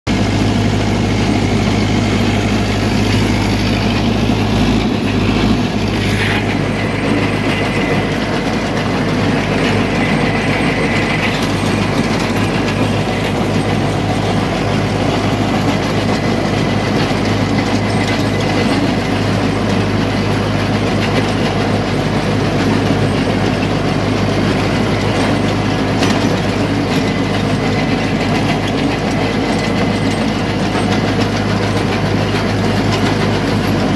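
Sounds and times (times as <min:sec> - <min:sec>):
rotary tiller rattling: 0:00.1 - 0:33.9
tractor diesel engine running: 0:00.1 - 0:33.9.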